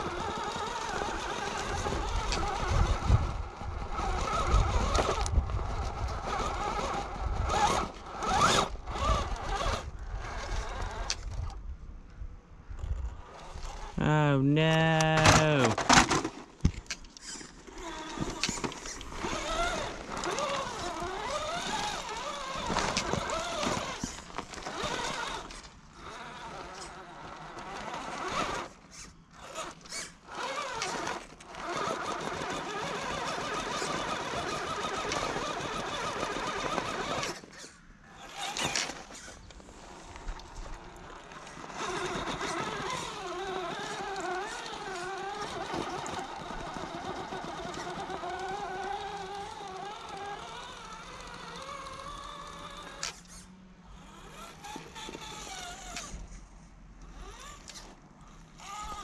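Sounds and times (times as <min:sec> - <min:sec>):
toy car motor whining: 0:00.0 - 0:11.6, 0:12.8 - 0:14.1, 0:14.8 - 0:16.4, 0:17.1 - 0:56.4, 0:57.0 - 0:59.0.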